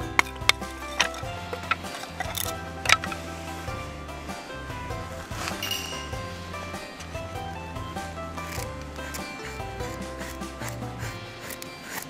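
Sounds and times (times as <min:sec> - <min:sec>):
wooden knocks of splitting kindling: 0:00.0 - 0:11.7
background music: 0:00.0 - 0:12.0.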